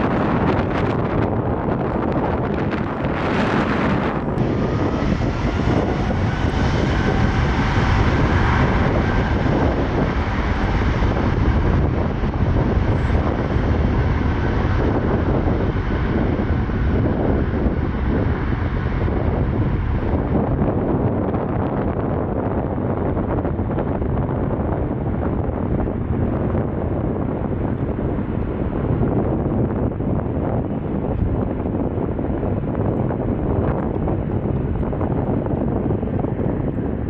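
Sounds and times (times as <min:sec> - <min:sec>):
faint engine whine: 0:00.0 - 0:37.0
jet airliner engines rushing: 0:00.0 - 0:37.0.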